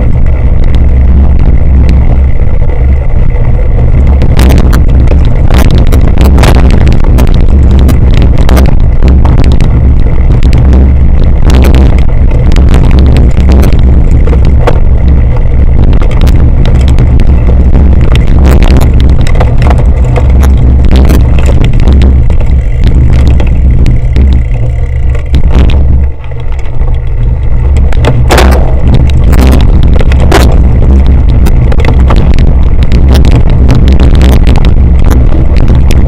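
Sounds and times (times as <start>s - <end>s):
bike clicking and rattling: 0.0s - 36.0s
wind buffeting microphone: 0.0s - 36.0s.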